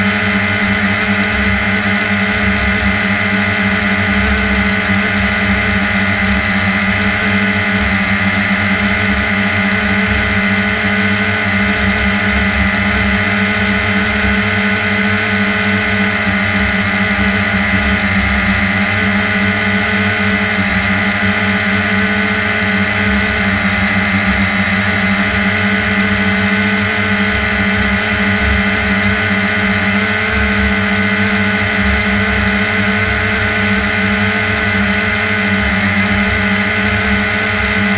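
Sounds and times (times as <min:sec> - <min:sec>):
aircraft propeller drone: 0:00.0 - 0:37.9.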